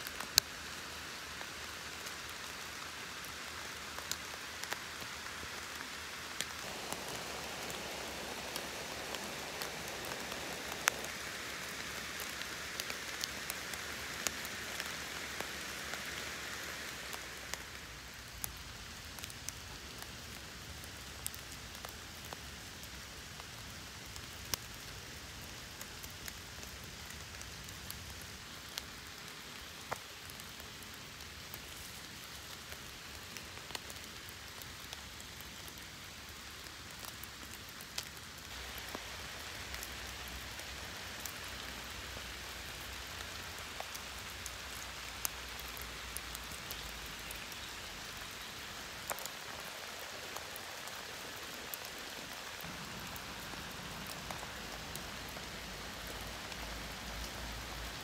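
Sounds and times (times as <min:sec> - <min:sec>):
raindrops ticking close by: 0:00.0 - 0:58.0
steady rain falling: 0:00.0 - 0:58.0.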